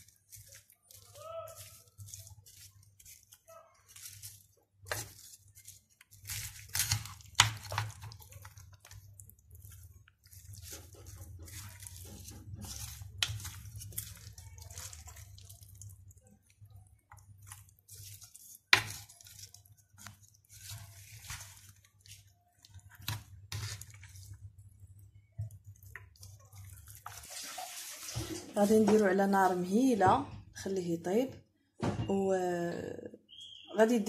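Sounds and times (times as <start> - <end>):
wet squishing and rustling: 0.0 - 30.6.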